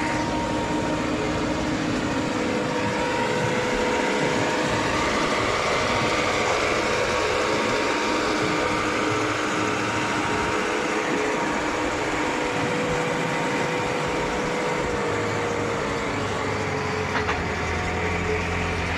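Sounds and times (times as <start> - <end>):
deep engine hum: 0.0 - 18.9
diesel engine running: 0.0 - 18.9
hydraulic mixer whine: 0.0 - 18.9.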